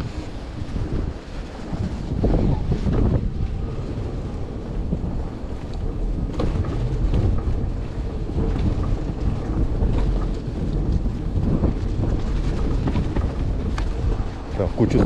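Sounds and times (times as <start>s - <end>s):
blizzard wind buffeting microphone: 0.0s - 15.0s
faint clicks and knocks: 1.8s - 15.0s.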